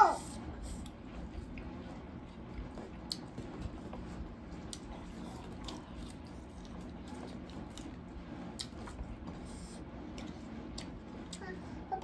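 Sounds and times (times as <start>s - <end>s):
faint chewing: 0.2s - 11.6s.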